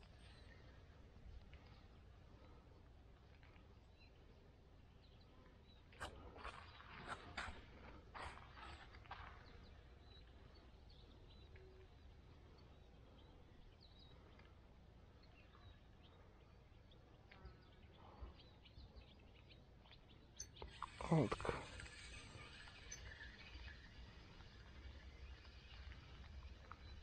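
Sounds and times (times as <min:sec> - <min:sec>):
faint bird chirps: 0:00.0 - 0:07.6, 0:08.6 - 0:27.0.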